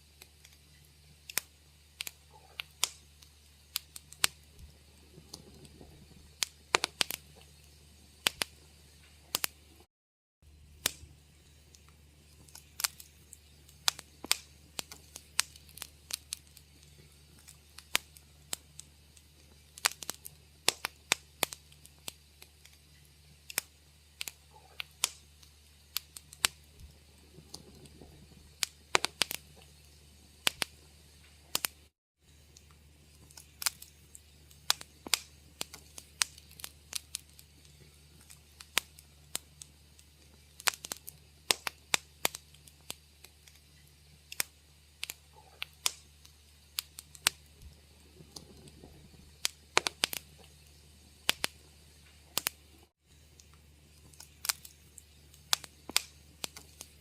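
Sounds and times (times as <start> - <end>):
faint low hum: 0.0 - 57.0
wood fire crackling: 0.0 - 57.0.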